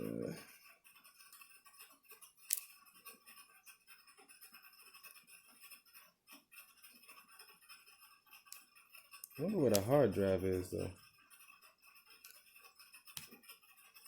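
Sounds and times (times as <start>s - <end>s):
hand tools clicking and scratching: 0.0s - 14.0s.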